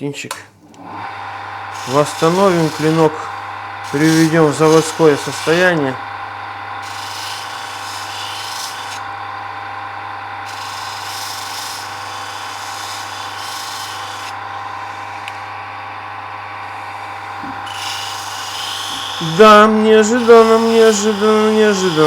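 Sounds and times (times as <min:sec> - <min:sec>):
motor humming: 0:00.6 - 0:22.0
blade rasping on abrasive tool: 0:01.4 - 0:22.0.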